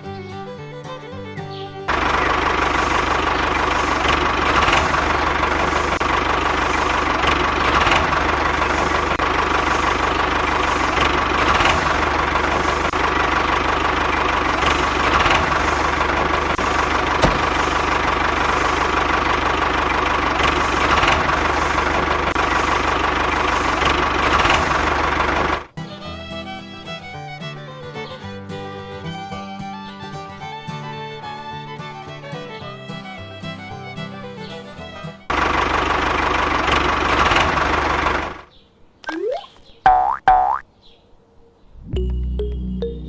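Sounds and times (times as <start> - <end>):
small engine humming: 0.0 - 38.5.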